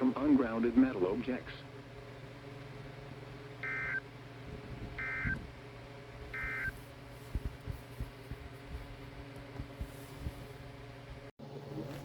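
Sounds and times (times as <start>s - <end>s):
faint radio hum: 0.0s - 1.8s, 3.5s - 5.6s, 6.2s - 12.0s.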